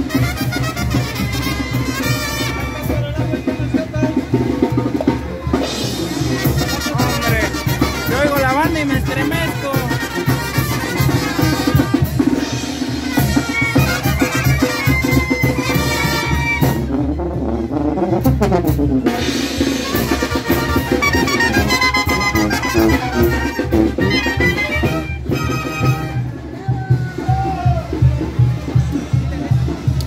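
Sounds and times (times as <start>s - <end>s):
trumpets: 0.0s - 4.8s, 5.4s - 26.5s
steady drum beat: 0.0s - 30.0s.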